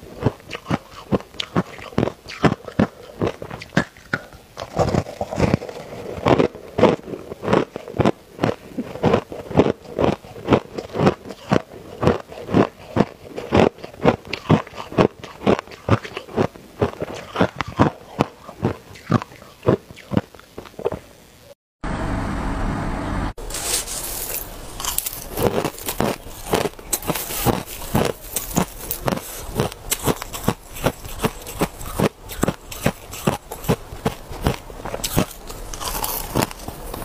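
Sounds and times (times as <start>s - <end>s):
ice crunching in mouth: 0.0s - 21.1s, 23.4s - 37.0s.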